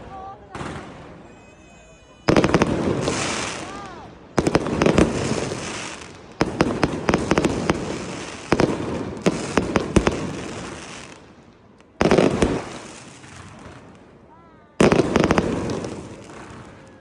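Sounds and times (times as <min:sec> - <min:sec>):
firework shells booming: 0:02.3 - 0:14.1, 0:14.8 - 0:16.9.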